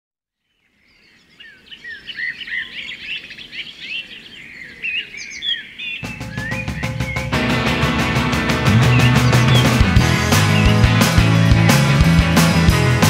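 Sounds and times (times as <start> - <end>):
songbirds singing: 0.3 - 13.0.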